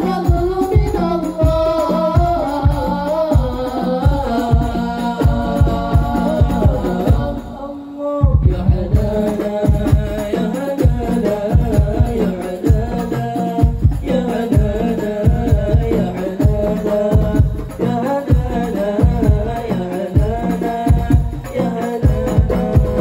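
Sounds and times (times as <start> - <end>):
hand drums and percussion: 0.0 - 7.6, 8.2 - 23.0
voices singing devotional song: 0.0 - 23.0.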